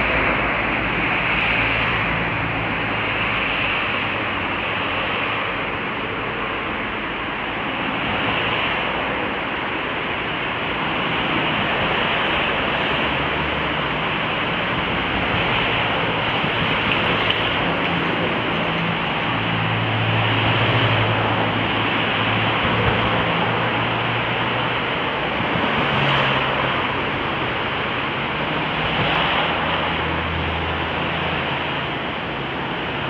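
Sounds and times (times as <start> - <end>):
road traffic rushing: 0.0 - 33.0.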